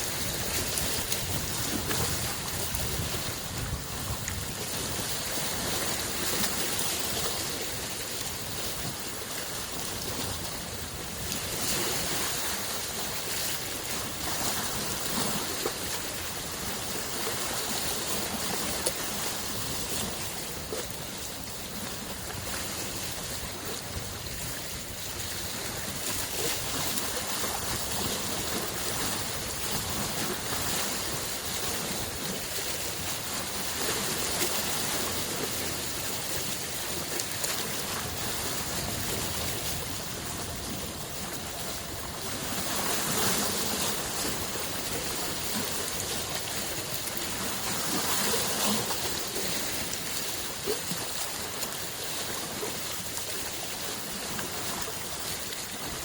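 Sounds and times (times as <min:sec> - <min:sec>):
lake waves washing: 0:00.0 - 0:56.0.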